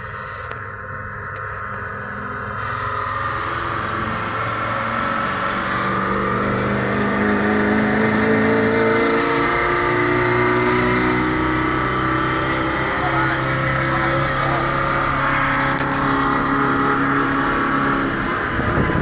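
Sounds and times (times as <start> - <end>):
diesel truck engine revving: 2.0 - 19.0.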